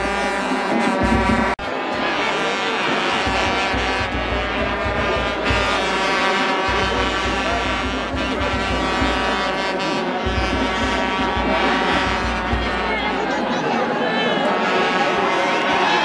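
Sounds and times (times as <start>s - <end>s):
horn-like drone: 0.0s - 16.0s
large crowd din: 0.0s - 16.0s.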